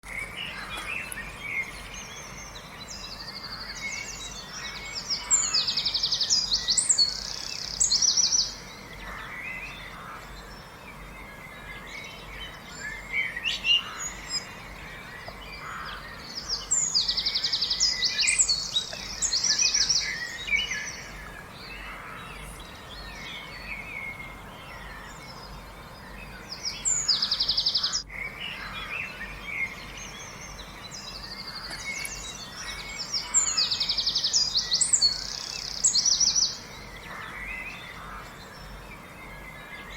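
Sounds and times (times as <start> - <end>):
birds trilling song: 0.0 - 39.9
soft bird chirps and calls: 0.0 - 39.9.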